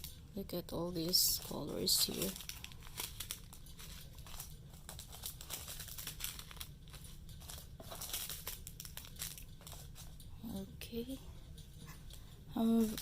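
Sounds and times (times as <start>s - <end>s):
plastic bags crinkling: 0.0s - 10.3s, 11.6s - 13.0s.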